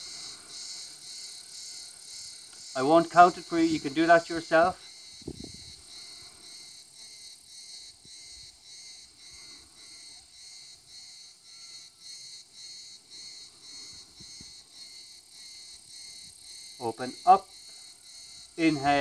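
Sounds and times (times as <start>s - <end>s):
insects chorus pulsing: 0.0s - 19.0s.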